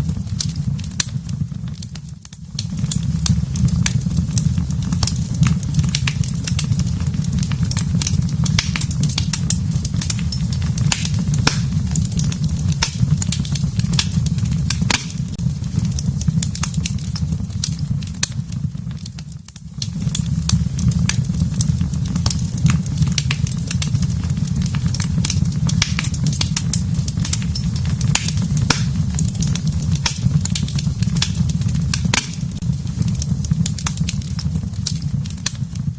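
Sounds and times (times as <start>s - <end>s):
wood fire crackling in fireplace: 0.0s - 35.9s.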